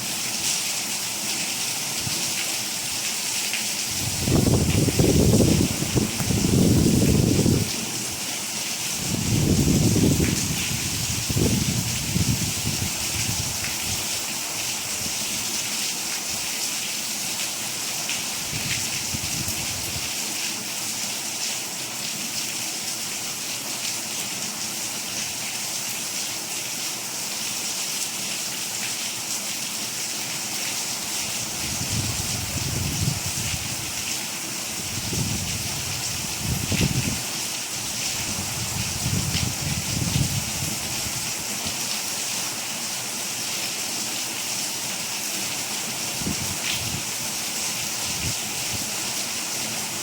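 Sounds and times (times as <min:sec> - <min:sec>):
steady rain hiss: 0:00.0 - 0:50.0.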